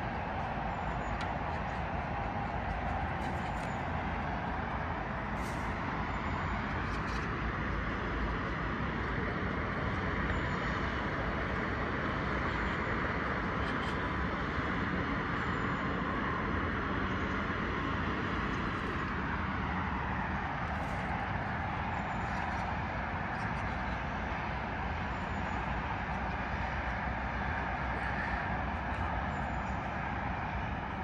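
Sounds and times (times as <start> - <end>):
distant road traffic hum: 0.0 - 31.0.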